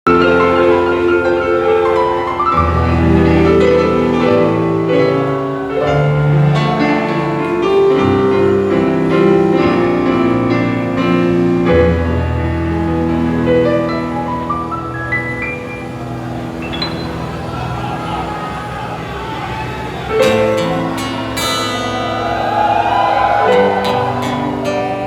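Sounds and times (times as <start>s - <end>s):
slow keyboard piano sound: 0.0s - 25.0s.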